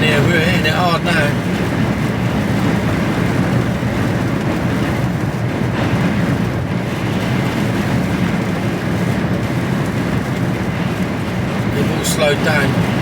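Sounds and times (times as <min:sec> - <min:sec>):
lorry engine rumble: 0:00.0 - 0:13.0
storm wind: 0:00.0 - 0:13.0.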